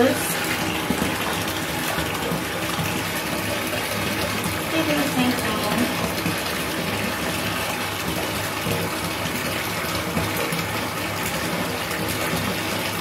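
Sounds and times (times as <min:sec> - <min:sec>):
water running into bathtub: 0:00.0 - 0:13.0.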